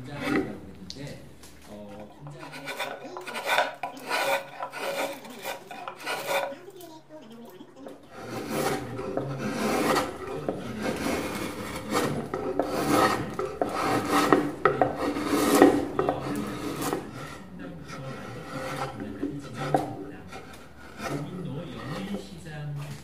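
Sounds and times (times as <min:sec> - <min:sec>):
rasp scraping wood: 0:00.0 - 0:07.0, 0:07.8 - 0:23.0.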